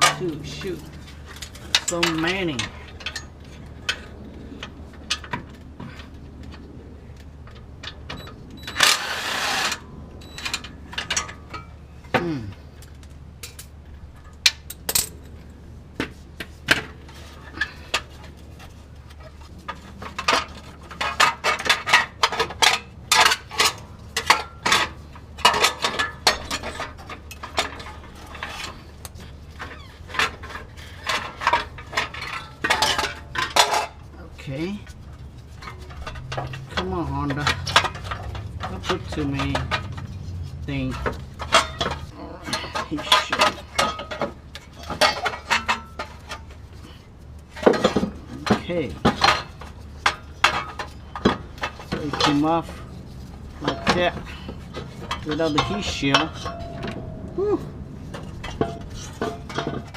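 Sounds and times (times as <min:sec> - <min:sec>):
metal tools clinking: 0:00.0 - 0:06.6, 0:16.7 - 0:59.9.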